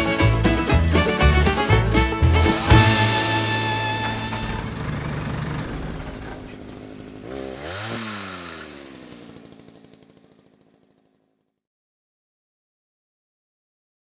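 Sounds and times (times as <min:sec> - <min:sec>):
chainsaw engine revving: 0:00.0 - 0:11.4.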